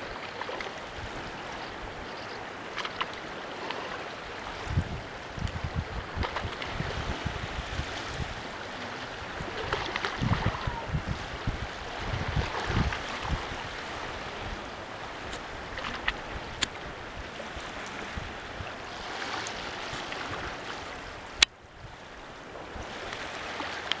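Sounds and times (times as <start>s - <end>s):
small waves washing on beach: 0.0s - 24.0s
wind buffeting microphone: 0.8s - 24.0s.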